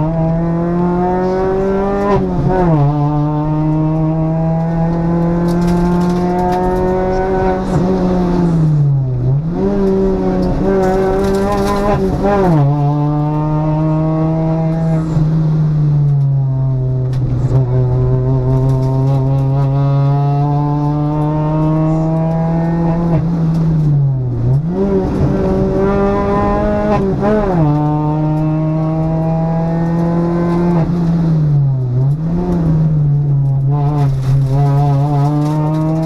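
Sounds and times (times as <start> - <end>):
rally car engine revving high: 0.0 - 36.0.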